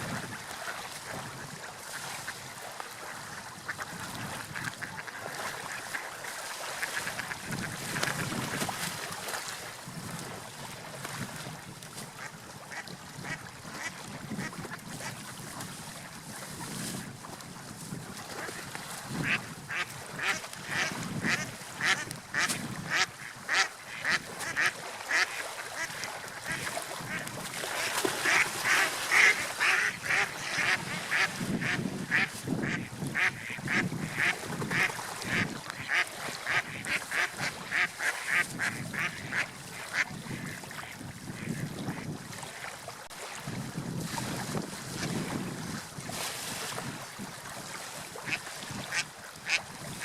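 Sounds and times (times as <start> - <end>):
waves washing: 0.0 - 50.0
wind: 0.0 - 50.0.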